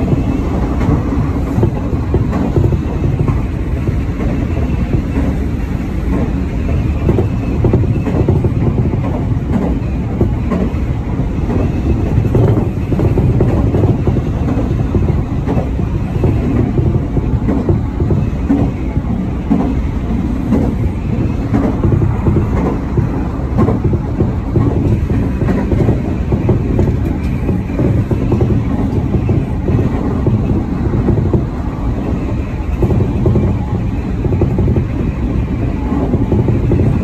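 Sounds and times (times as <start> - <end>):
track clicks and knocks: 0.0 - 37.0
train wheels rumbling on rail: 0.0 - 37.0.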